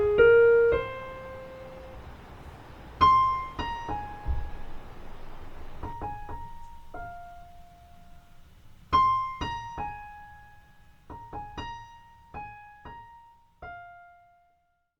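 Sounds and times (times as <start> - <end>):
slow piano melody: 0.0 - 14.8.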